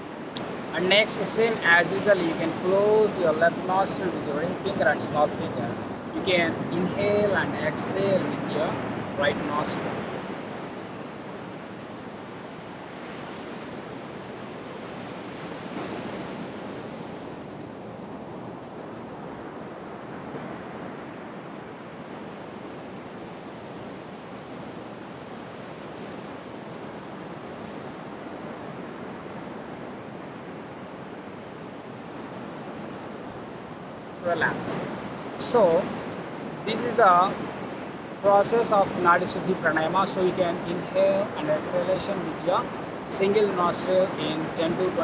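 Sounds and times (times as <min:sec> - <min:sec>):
ocean surf washing on beach: 0:00.0 - 0:45.0.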